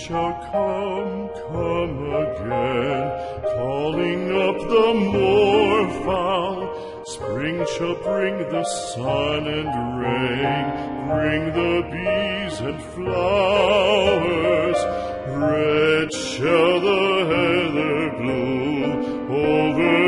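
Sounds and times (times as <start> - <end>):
operatic singing with accompaniment: 0.0 - 20.0.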